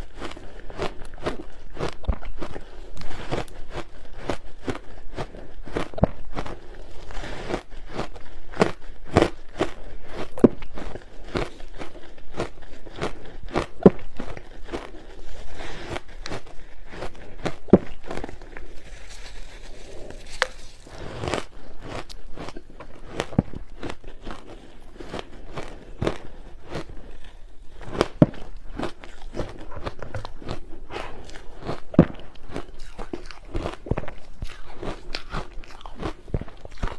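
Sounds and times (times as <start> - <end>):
ice being bitten and crunched: 0.0 - 36.9
soft grinding of chewed ice: 0.0 - 36.9.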